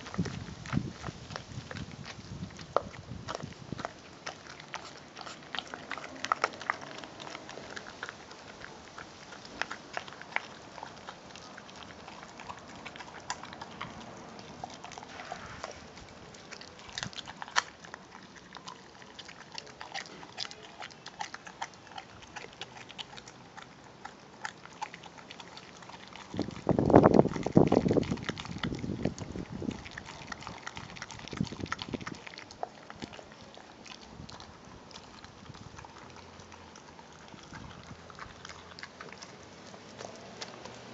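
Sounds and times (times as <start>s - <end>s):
dog chewing a bone: 0.0s - 40.9s.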